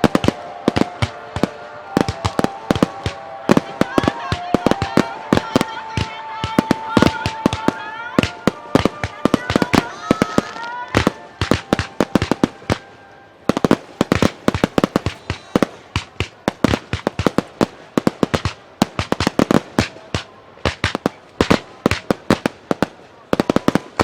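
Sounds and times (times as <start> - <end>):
fireworks bursting with sharp bangs: 0.0 - 24.0.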